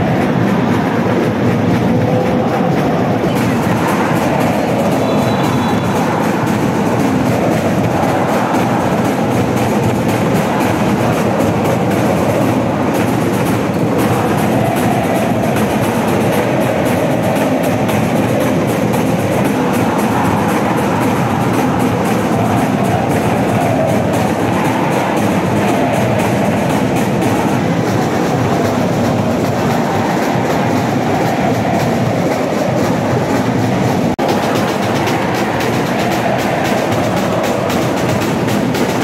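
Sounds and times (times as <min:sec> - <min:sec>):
crowd singing a chant: 0:00.0 - 0:39.0
drums beating: 0:00.0 - 0:39.0.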